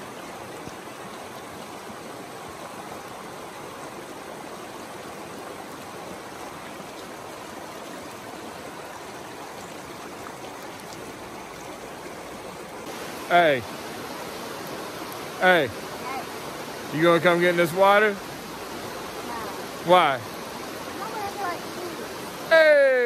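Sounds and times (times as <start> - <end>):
stream flowing over boulders: 0.0 - 23.0.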